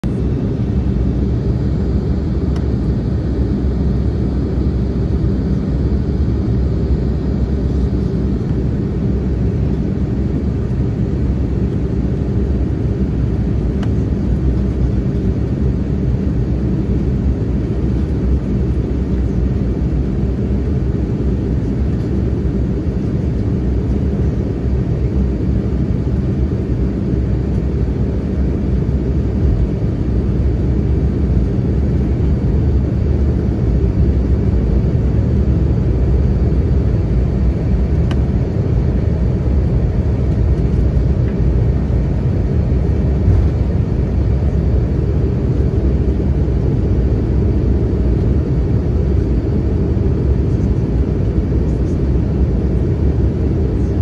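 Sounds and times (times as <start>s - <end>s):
airliner cabin rumble: 0.0s - 54.0s
jet engines: 0.0s - 54.0s.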